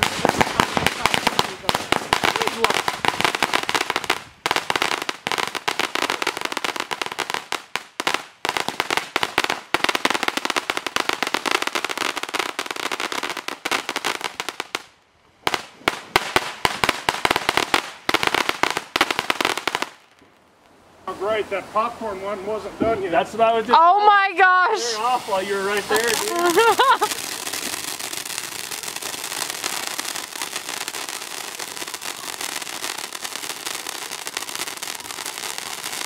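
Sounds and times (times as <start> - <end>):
firework crackling: 0.0 - 22.3, 23.3 - 36.0.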